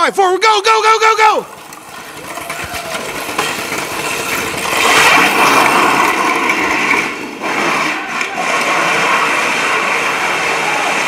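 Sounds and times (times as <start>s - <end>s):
plastic wheels rolling on concrete: 0.4s - 11.0s.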